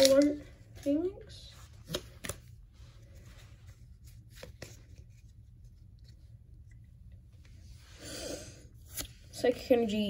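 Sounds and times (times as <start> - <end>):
handling trading cards: 0.0 - 7.6, 8.7 - 9.9
low steady hum: 0.0 - 10.0.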